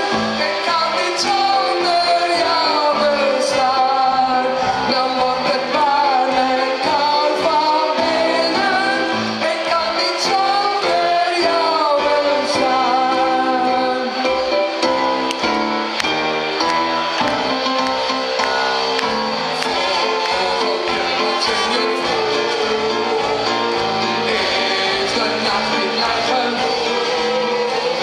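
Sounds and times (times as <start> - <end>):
band music with keyboard and drums: 0.0 - 28.0
crowd singing along: 0.0 - 28.0.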